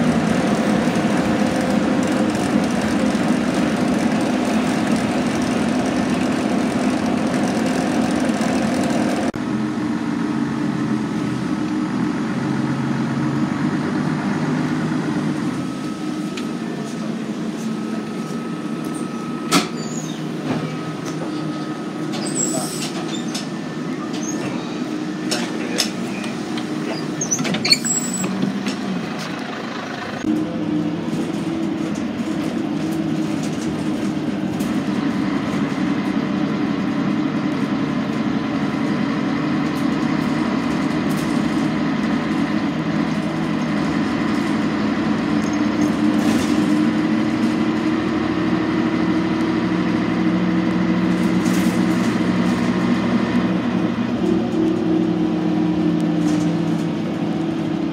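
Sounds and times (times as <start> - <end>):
bus engine droning: 0.0 - 57.9.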